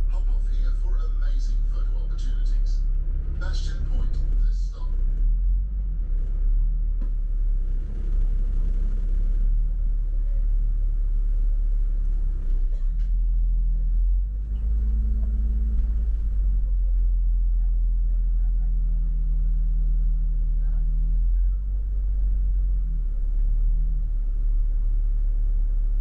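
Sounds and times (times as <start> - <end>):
bus engine rumble: 0.0 - 26.0.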